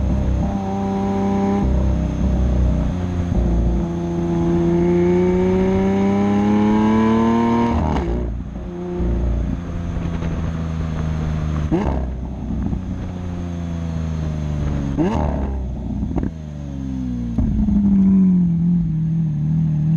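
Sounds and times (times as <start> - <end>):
sports car engine accelerating: 0.0 - 19.9.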